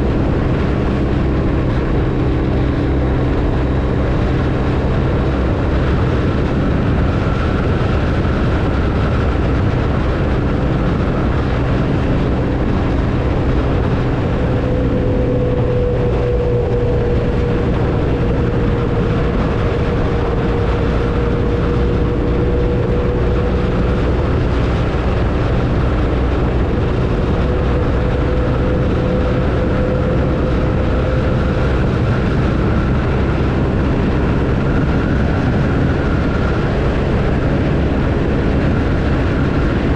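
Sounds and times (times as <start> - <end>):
faint steady whine: 0.0 - 39.9
motorcycle engine cruising: 0.0 - 39.9
wind and road noise: 0.0 - 39.9.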